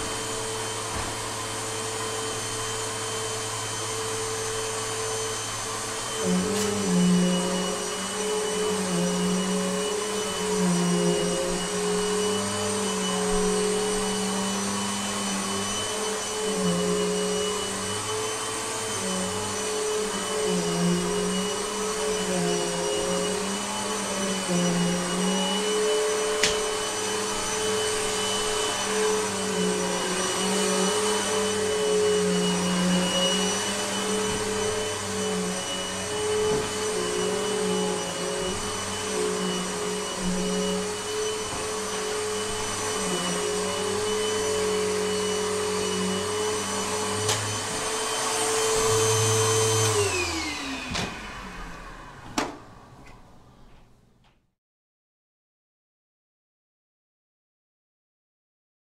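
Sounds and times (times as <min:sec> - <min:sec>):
vacuum cleaner running: 0:00.0 - 0:53.8.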